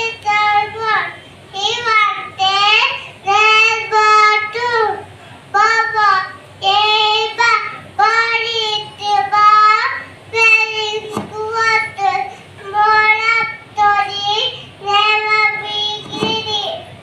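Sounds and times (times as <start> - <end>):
young child singing: 0.0 - 17.0.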